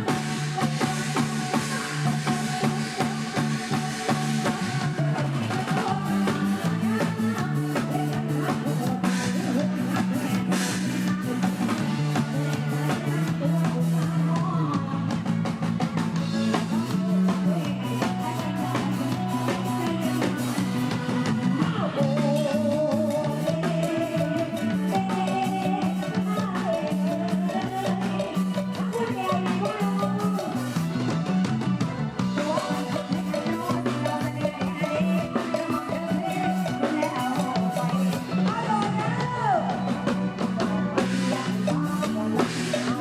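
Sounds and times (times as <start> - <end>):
bass: 0.0 - 43.0
drum kit: 0.0 - 43.0
guitar: 0.0 - 43.0.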